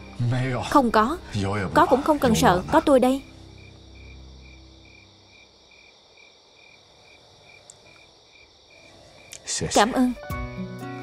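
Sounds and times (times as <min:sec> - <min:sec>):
crickets trilling: 0:00.0 - 0:10.2
repeating insect chirp: 0:00.0 - 0:10.2.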